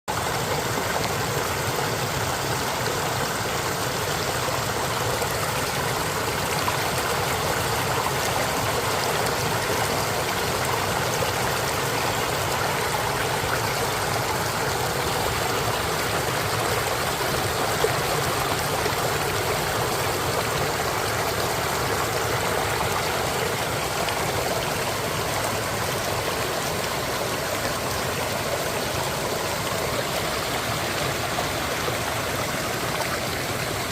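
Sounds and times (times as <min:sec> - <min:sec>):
water flowing: 0:00.1 - 0:33.9.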